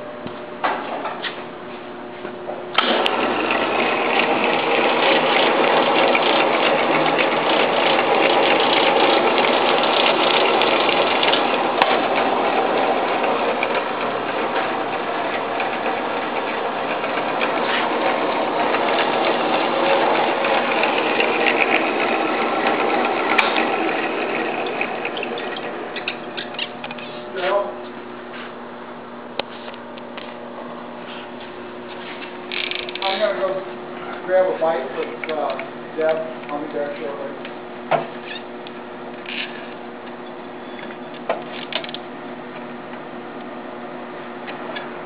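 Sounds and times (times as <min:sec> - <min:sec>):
drill press motor whirring: 0:02.1 - 0:45.0.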